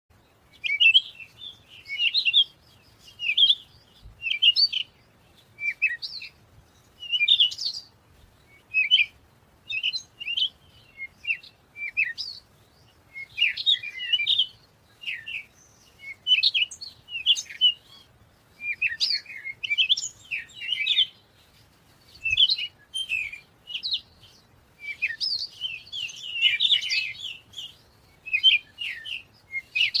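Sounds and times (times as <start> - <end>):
songbird singing: 0.1 - 30.0.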